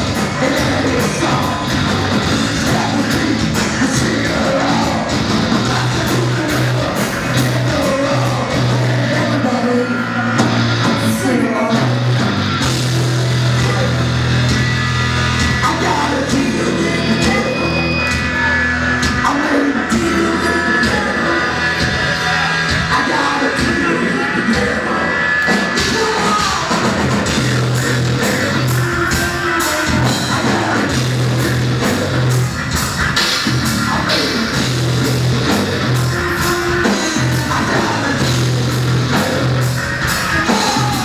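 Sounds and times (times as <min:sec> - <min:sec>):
live rock band playing: 0:00.0 - 0:41.0
vocalist singing: 0:00.0 - 0:41.0.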